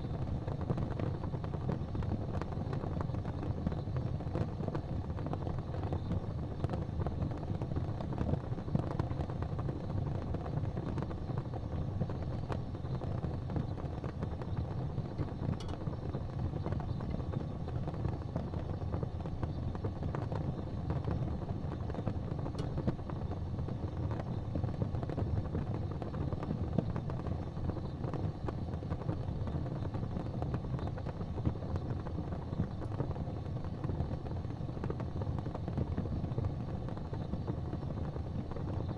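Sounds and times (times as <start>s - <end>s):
faint fire crackles: 0.0s - 38.9s
low rumble of fire: 0.0s - 38.9s.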